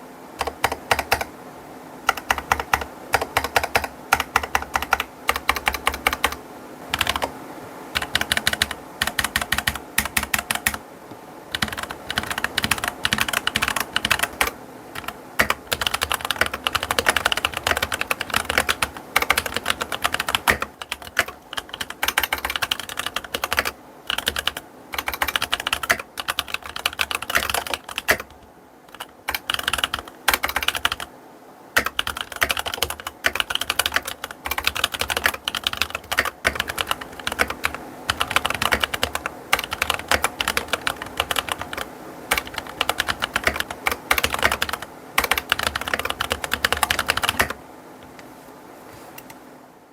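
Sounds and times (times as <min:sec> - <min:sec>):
mechanical keyboard typing: 0:00.4 - 0:01.3, 0:02.1 - 0:07.3, 0:07.9 - 0:10.8, 0:11.5 - 0:31.1, 0:31.8 - 0:47.6.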